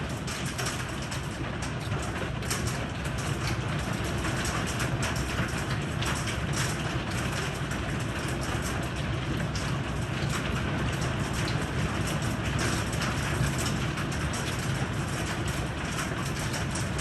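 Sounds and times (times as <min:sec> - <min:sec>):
heavy rain pouring: 0:00.0 - 0:17.0
raindrops ticking on hard surfaces: 0:00.0 - 0:17.0.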